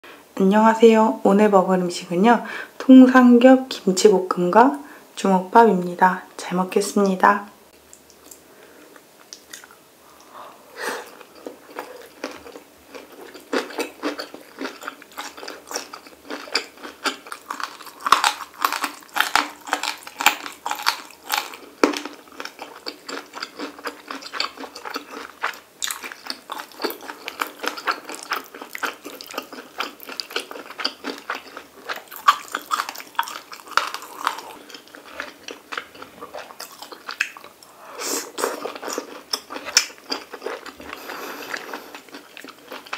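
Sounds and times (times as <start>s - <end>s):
person chewing crunchy food: 7.9s - 42.9s.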